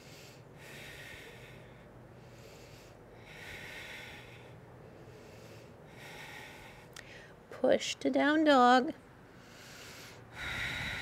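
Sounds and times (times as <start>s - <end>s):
woman breathing slowly: 0.0s - 7.5s, 9.2s - 11.0s.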